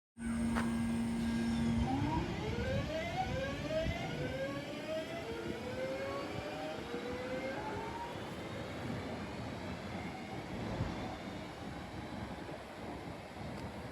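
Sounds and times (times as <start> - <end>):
electric train inverter whine: 0.2 - 13.9
train running noise: 0.2 - 13.9.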